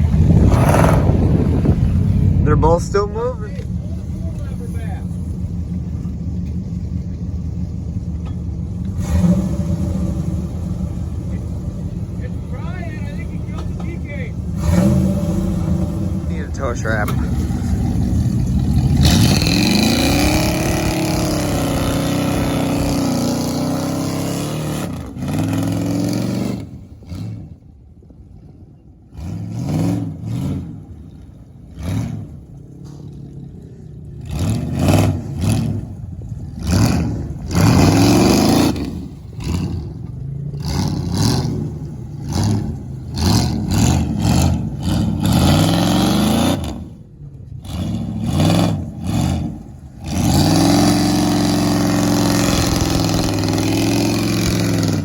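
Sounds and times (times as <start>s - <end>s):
pickup truck engine revving: 0.0s - 27.7s, 29.0s - 55.0s.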